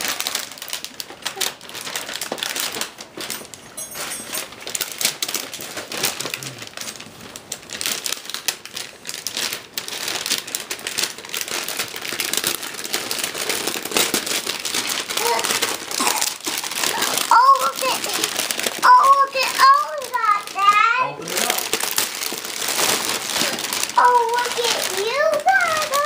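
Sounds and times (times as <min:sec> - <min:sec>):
wrapping paper crinkling: 0:00.0 - 0:26.0.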